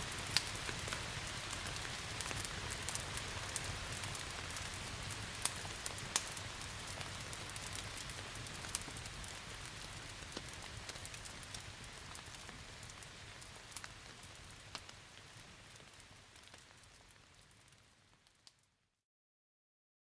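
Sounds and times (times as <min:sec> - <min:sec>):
steady rain hiss: 0:00.0 - 0:18.6
wood fire crackling: 0:00.0 - 0:18.7.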